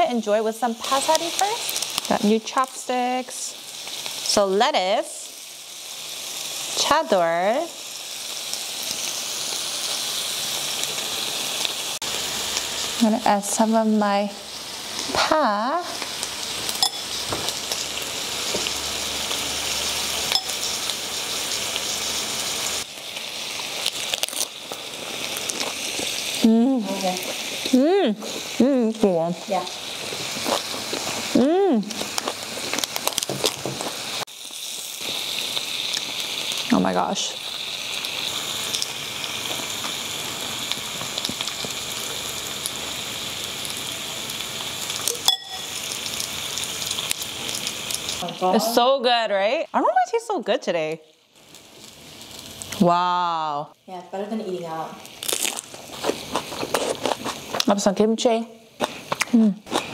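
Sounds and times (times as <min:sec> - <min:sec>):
meat sizzling on a grill: 0:00.0 - 0:59.9.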